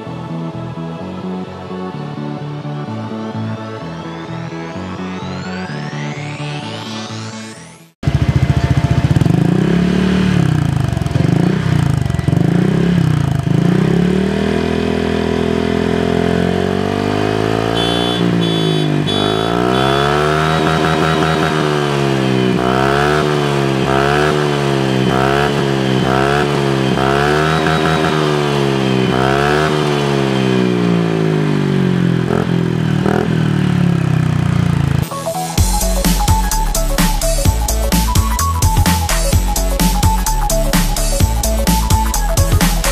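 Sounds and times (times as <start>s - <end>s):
scooter engine revving: 8.0s - 42.9s.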